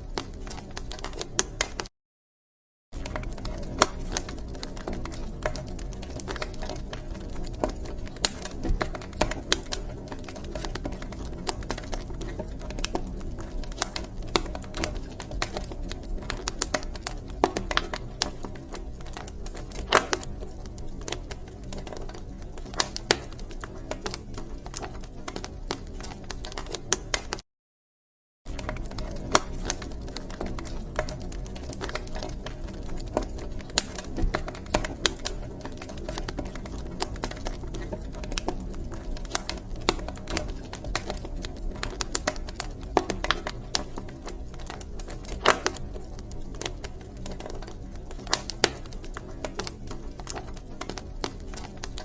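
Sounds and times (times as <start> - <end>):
wood fire crackling: 0.0 - 1.9, 3.0 - 27.4, 28.5 - 52.0.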